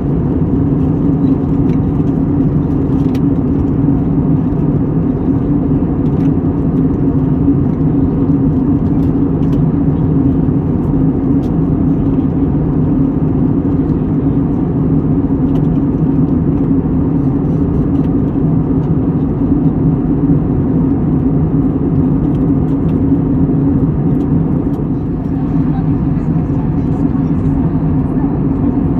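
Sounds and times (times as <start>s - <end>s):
low rumbling drone with hum: 0.0s - 28.9s.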